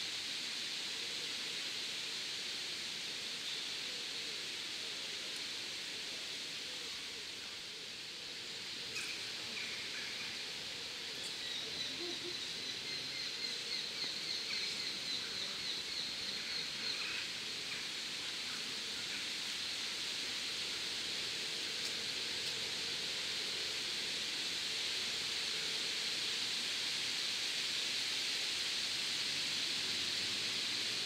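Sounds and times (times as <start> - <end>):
wind in leaves: 0.0 - 31.0.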